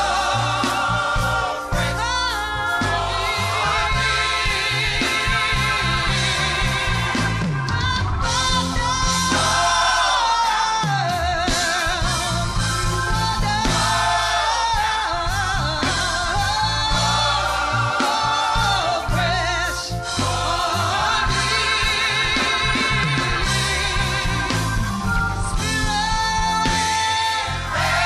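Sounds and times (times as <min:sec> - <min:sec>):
gospel choir singing with band: 0:00.0 - 0:28.0
lead singer with vibrato: 0:00.0 - 0:28.0.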